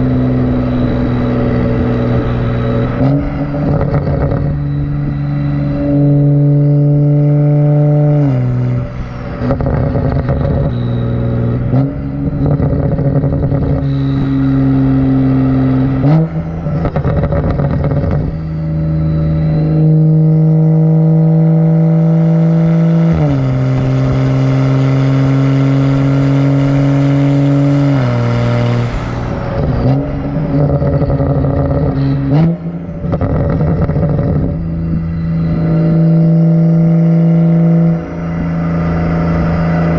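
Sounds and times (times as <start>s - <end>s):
car engine running loudly: 0.0s - 39.9s.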